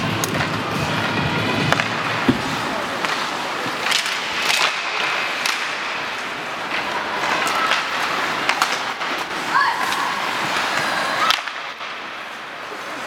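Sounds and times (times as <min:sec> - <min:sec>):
hockey sticks and puck clacking: 0:00.0 - 0:13.0
skates scraping ice: 0:00.0 - 0:13.0
arena crowd voices: 0:00.4 - 0:13.0.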